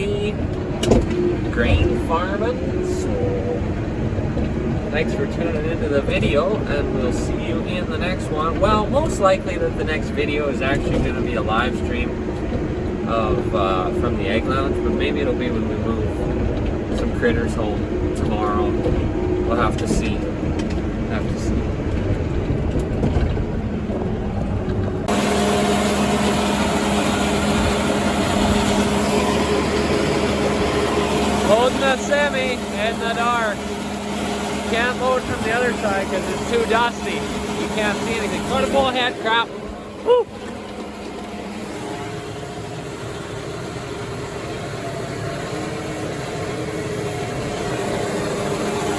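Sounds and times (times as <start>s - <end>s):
farm machine droning: 0.0s - 48.9s
low engine rumble: 0.0s - 48.9s.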